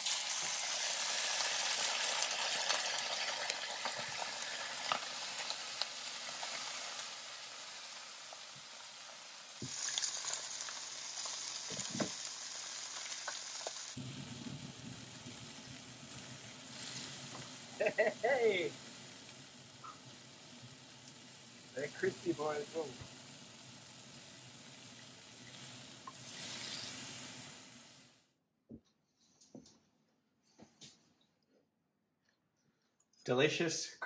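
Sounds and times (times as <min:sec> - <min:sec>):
fish sizzling in a frying pan: 0:00.0 - 0:28.2.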